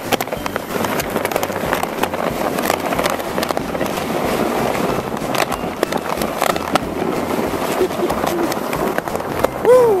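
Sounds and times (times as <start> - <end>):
low vehicle drone: 0.0 - 10.0
plastic sled scraping on ice: 0.0 - 10.0
wind on microphone: 0.0 - 10.0.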